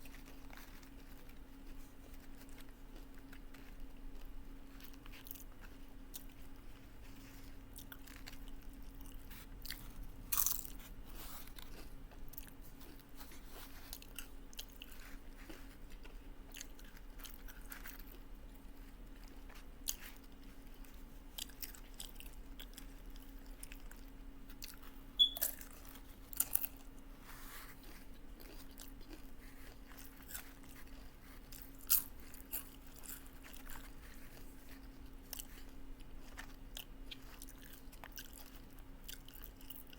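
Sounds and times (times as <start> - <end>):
faint steady hum: 0.0 - 39.9
person chewing crunchy chips: 0.0 - 39.9.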